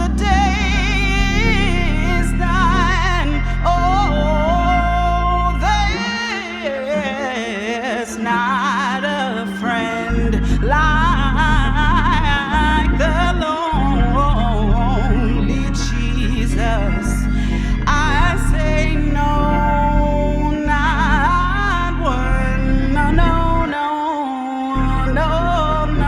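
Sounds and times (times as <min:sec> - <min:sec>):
gospel singing: 0:00.0 - 0:26.0
organ: 0:00.0 - 0:26.0.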